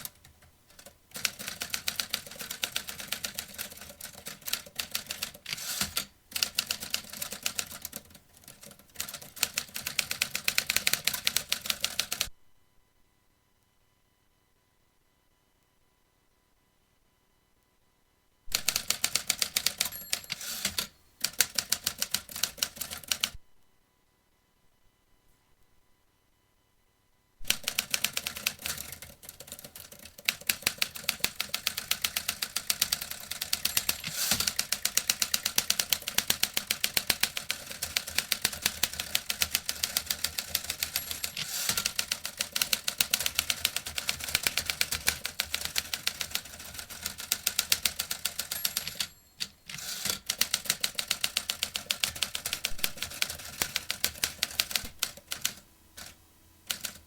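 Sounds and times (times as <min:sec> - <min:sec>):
typewriter keys striking: 0:00.0 - 0:12.3, 0:18.5 - 0:23.3, 0:27.5 - 0:56.1, 0:56.7 - 0:57.0.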